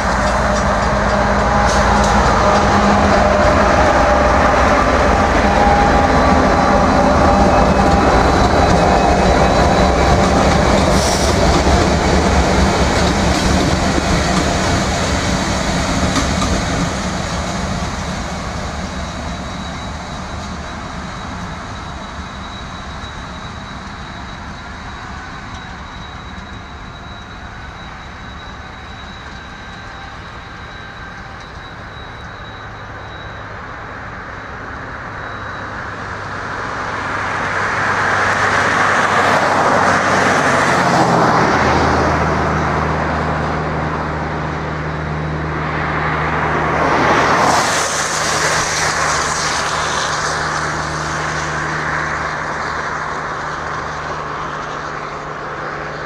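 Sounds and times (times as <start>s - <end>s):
diesel locomotive engine drone: 0.0s - 56.0s
train wheels rumbling on rail: 0.0s - 56.0s.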